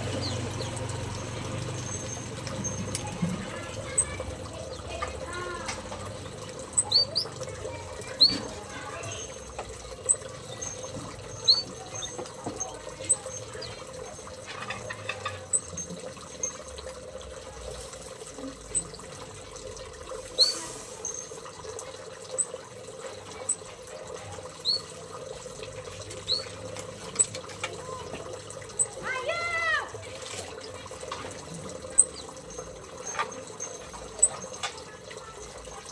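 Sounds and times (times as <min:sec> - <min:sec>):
birds chirping: 0:00.0 - 0:16.8, 0:18.4 - 0:19.2, 0:20.3 - 0:21.5, 0:23.3 - 0:29.8, 0:30.5 - 0:35.9
running water: 0:00.0 - 0:35.9.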